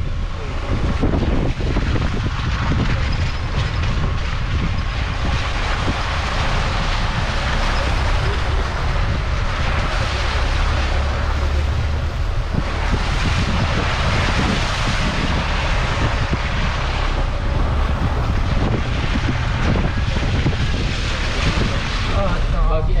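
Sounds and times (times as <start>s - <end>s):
off-road vehicle engine: 0.0s - 23.0s
wind buffeting microphone: 0.0s - 23.0s.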